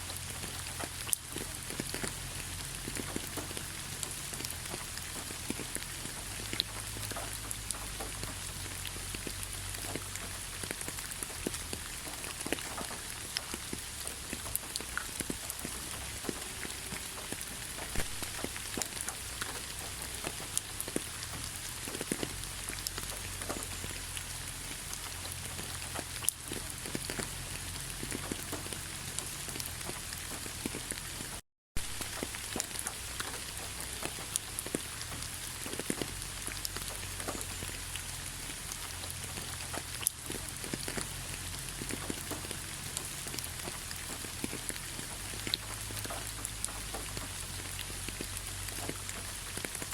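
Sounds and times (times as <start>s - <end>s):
raindrops ticking on a surface: 0.0s - 49.9s
steady rain falling: 0.0s - 49.9s.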